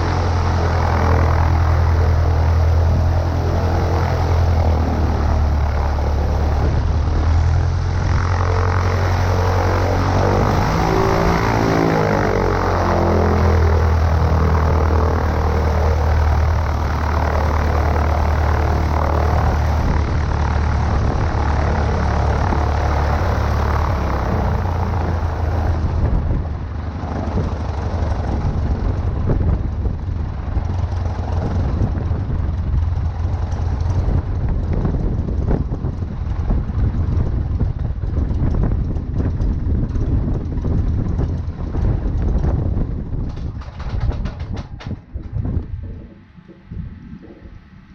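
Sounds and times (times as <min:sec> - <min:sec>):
propeller plane engine running: 0:00.0 - 0:47.9
rough rumble with knocks: 0:00.0 - 0:47.9.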